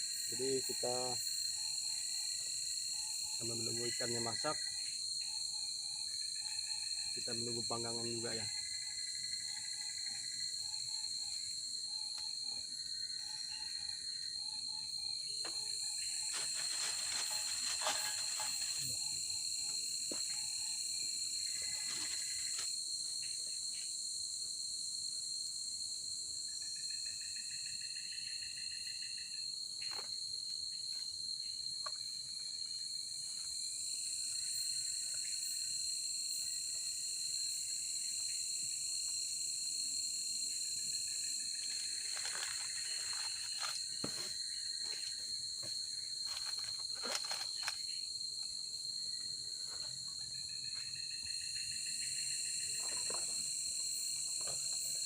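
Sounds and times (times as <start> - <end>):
forest insects chirring: 0.0 - 55.0
pulsing insect calls: 0.0 - 55.0.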